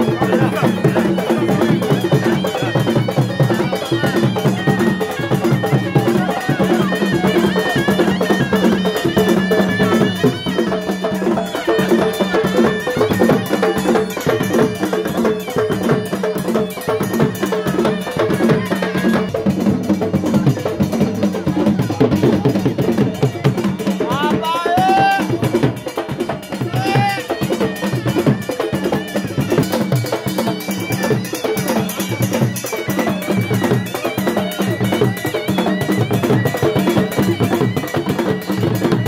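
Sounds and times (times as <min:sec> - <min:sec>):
dhol drum fast rhythm: 0:00.0 - 0:39.0.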